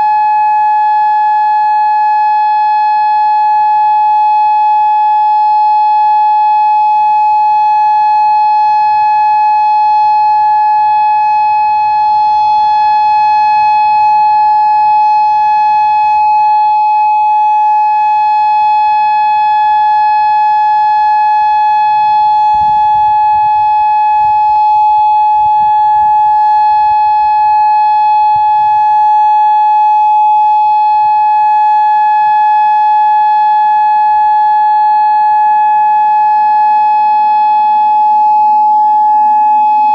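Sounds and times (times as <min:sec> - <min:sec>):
steady electronic warning siren: 0:00.0 - 0:39.9.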